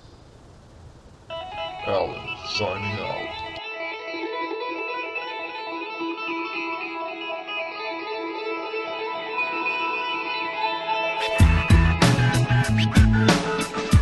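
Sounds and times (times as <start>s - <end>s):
solo guitar sustained notes: 1.3s - 13.8s.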